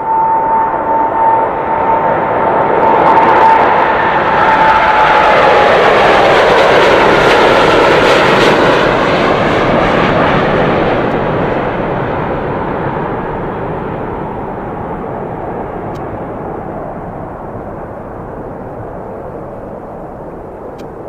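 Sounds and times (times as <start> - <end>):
airplane engine rush: 0.0 - 21.0
engine whine: 0.0 - 21.0.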